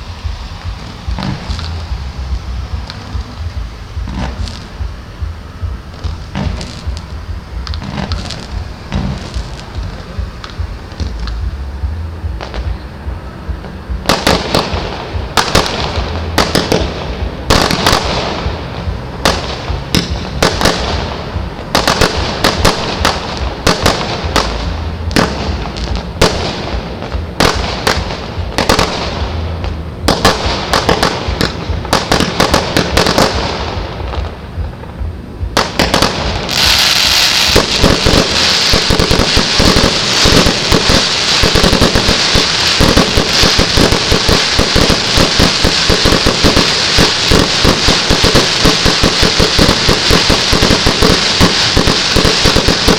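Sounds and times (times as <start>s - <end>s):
fireworks bangs: 0.0s - 11.6s, 12.3s - 52.9s
fireworks crackling: 0.0s - 52.9s.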